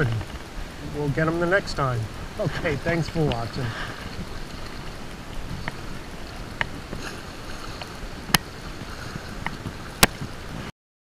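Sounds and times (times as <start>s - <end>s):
water lapping against rocks: 0.0s - 10.7s.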